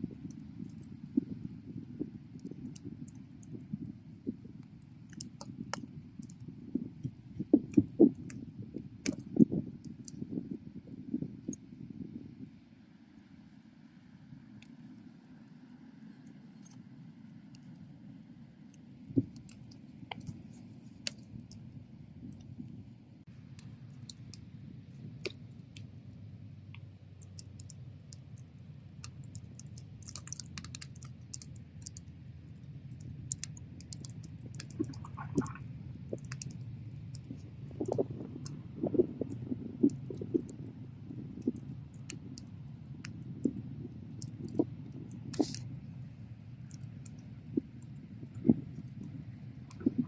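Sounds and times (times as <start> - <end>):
burning wood crackling and popping: 0.0 - 10.4, 19.0 - 50.0
rumble of bonfire flames: 0.0 - 16.0, 16.6 - 50.0.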